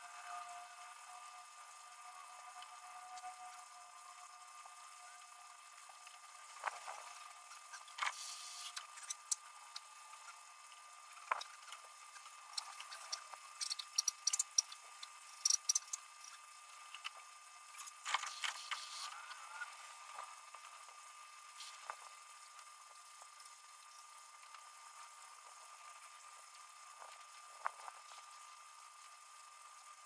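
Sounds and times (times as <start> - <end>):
steady high hum: 0.0 - 30.0.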